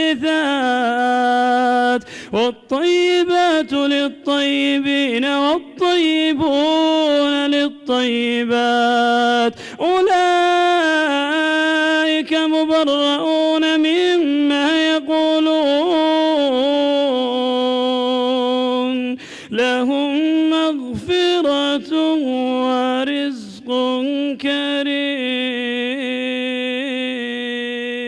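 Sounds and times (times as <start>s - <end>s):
man reciting melodically: 0.0s - 28.0s.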